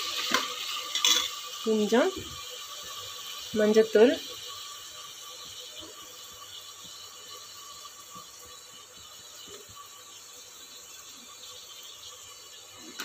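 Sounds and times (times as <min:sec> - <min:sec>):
soft sizzle of frying: 0:00.0 - 0:13.0.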